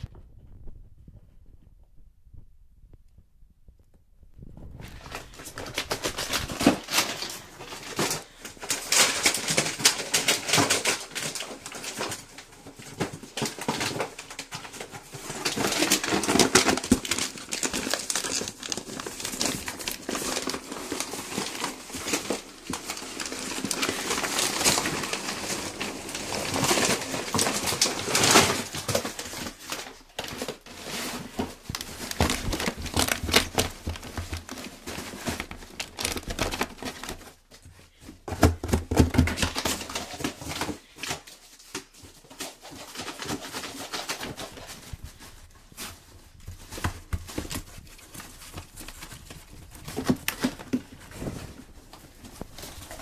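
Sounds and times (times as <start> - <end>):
plastic packets crinkling: 4.5 - 53.0.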